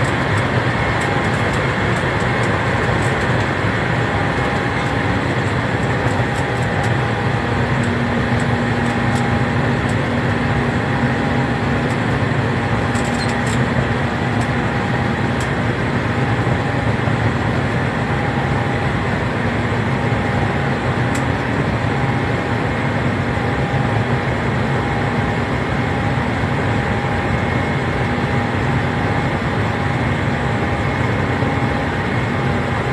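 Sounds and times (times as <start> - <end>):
jet engine roar in cabin: 0.0 - 32.9.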